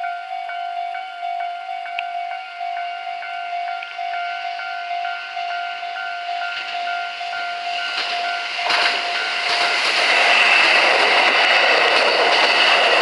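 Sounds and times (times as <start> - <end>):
level crossing warning bell: 0.0 - 11.8
train passing: 0.0 - 13.0.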